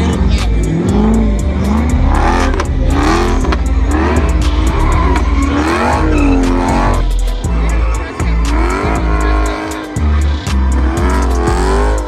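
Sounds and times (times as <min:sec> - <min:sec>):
car engine revving hard: 0:00.0 - 0:12.0
tyre squeal: 0:00.7 - 0:12.0.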